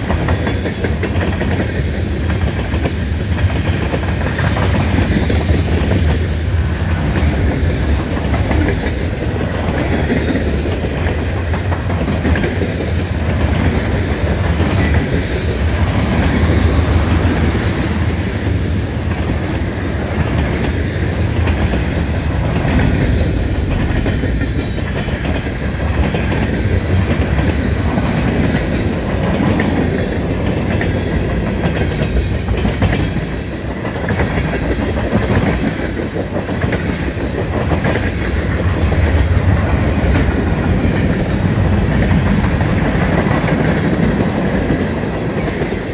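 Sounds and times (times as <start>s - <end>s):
freight train cars rolling past: 0.0s - 45.9s
wheels clicking over rail joints: 0.0s - 45.9s.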